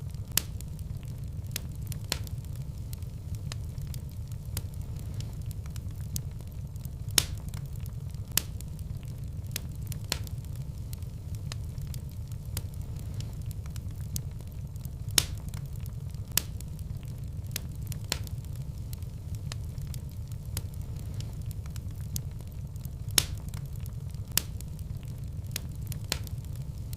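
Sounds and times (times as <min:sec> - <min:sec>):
fire crackling and popping: 0:00.0 - 0:26.9
fire rumbling in a fireplace: 0:00.0 - 0:26.9.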